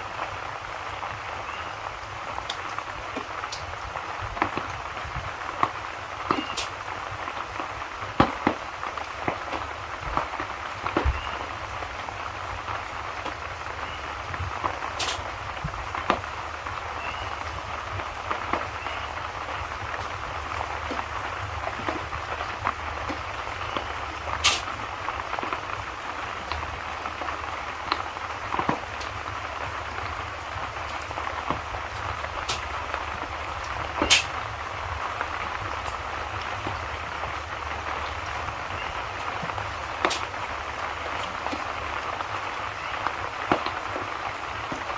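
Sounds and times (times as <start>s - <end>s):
steady rain: 0.0s - 44.9s
wood fire crackling: 0.0s - 44.9s.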